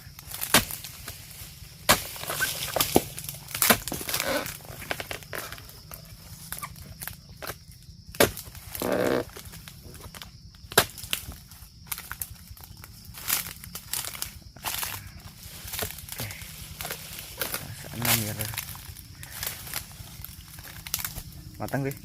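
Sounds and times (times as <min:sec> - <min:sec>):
dry palm fronds rustling: 0:00.0 - 0:22.0.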